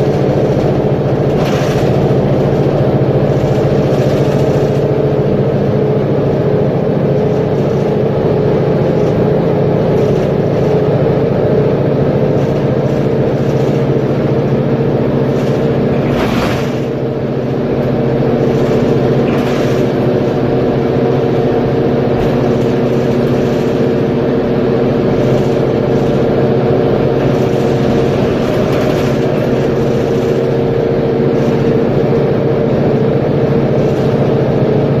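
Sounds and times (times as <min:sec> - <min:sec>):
diesel bus engine running: 0:00.0 - 0:35.0.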